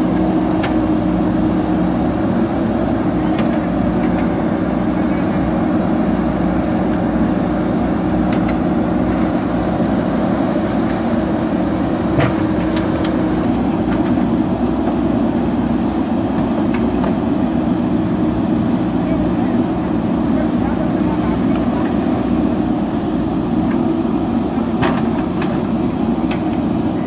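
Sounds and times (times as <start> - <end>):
diesel engines digging: 0.0 - 27.0.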